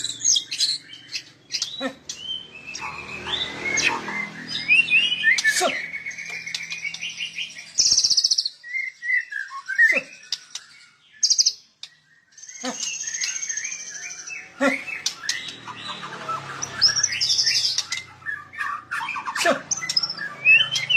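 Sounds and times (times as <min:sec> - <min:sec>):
songbird singing: 0:00.0 - 0:20.9.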